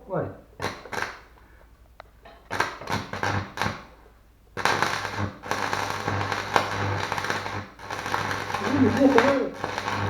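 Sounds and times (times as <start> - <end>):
welding arc crackling: 0.6 - 10.0.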